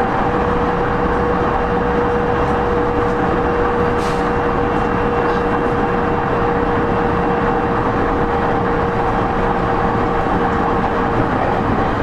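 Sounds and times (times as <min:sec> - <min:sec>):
train traction motor whine: 0:00.0 - 0:12.0
wheels rumbling on rail: 0:00.0 - 0:12.0.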